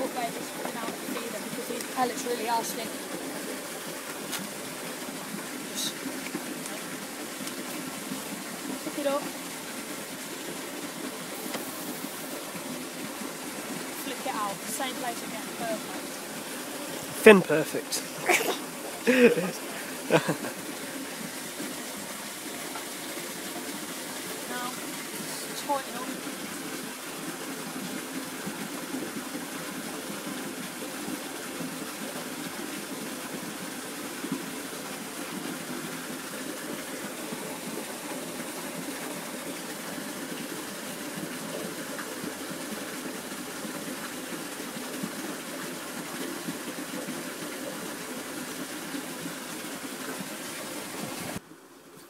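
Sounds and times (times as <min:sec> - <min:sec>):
running water rushing: 0:00.0 - 0:52.0.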